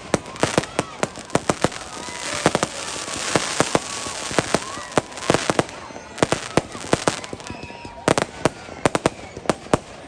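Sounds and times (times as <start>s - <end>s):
crackling hiss: 0.0s - 9.2s
fireworks bangs: 0.0s - 10.0s.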